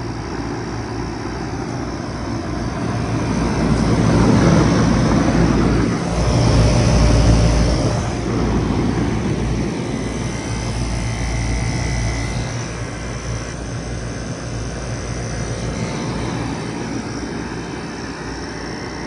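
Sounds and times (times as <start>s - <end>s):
low compressor hum: 0.0s - 19.0s
fan whoosh: 2.5s - 18.0s.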